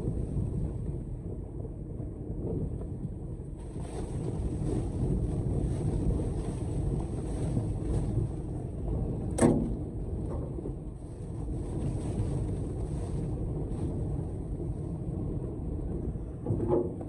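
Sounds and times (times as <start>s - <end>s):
blizzard wind buffeting: 0.0s - 17.0s.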